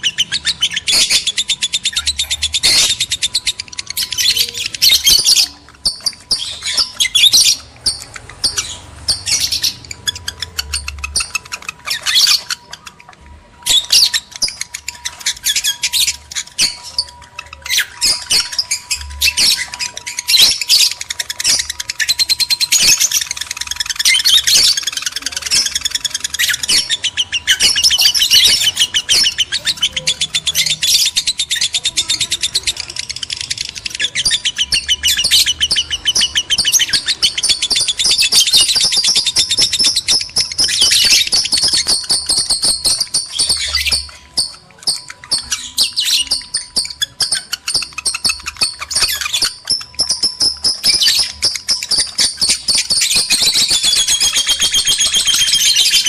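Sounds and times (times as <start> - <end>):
lovebirds chattering shrill chirps: 0.0 - 56.0.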